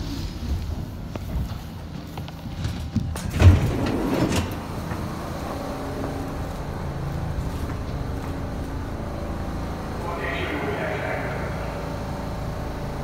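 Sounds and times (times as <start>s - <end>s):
subway car rumbling on rails: 0.0s - 13.0s.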